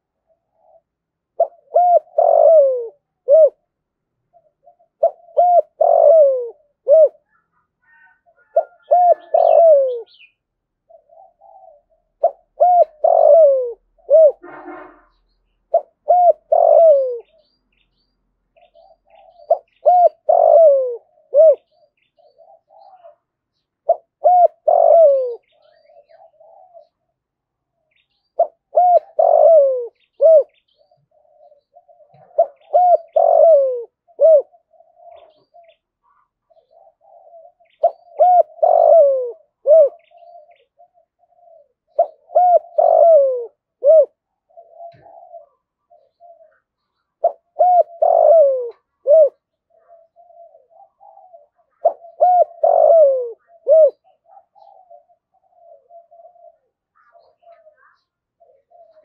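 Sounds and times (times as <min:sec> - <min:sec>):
soft low murmuring coos: 0:00.0 - 0:14.4, 0:15.7 - 0:17.6, 0:18.5 - 0:59.0
dove cooing: 0:00.0 - 0:17.9, 0:18.6 - 0:59.0.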